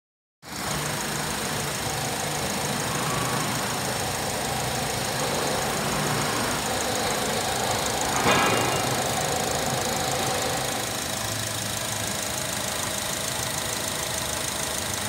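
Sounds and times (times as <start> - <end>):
car engine idling: 0.4 - 15.0.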